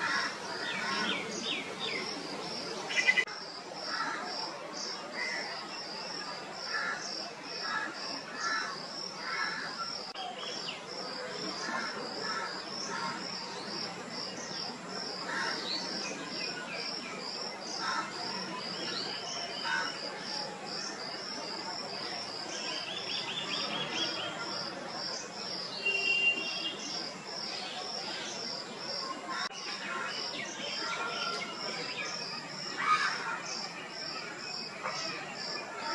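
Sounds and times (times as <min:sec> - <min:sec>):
insect chirping: 0:00.0 - 0:35.7.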